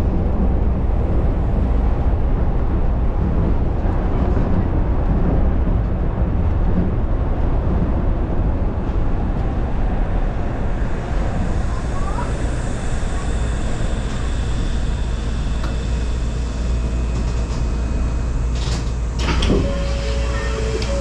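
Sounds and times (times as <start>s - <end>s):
monorail car rumbling: 0.0s - 21.0s.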